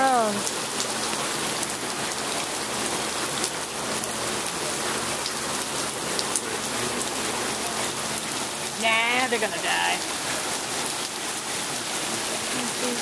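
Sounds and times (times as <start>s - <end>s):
heavy rain into a puddle: 0.0s - 13.0s.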